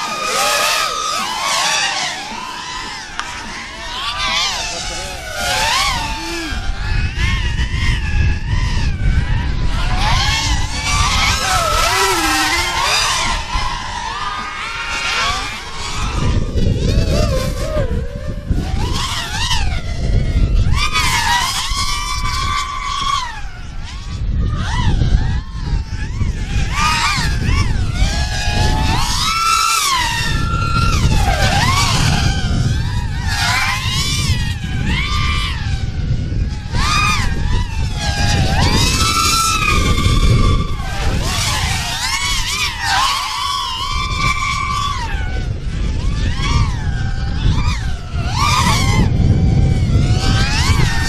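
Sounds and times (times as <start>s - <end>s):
low rumbling noise: 0.0s - 51.0s
quadcopter motors whining: 0.0s - 51.0s.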